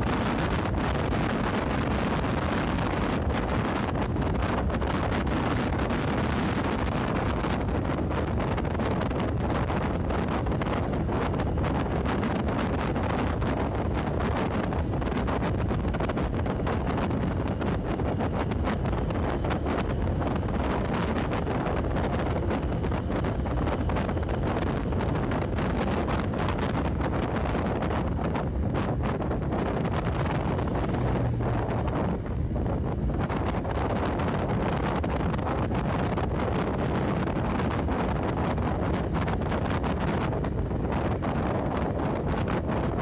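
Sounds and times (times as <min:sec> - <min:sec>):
motorcycle running: 0:00.0 - 0:43.0
road noise: 0:00.0 - 0:43.0
wind buffeting microphone: 0:00.0 - 0:43.0.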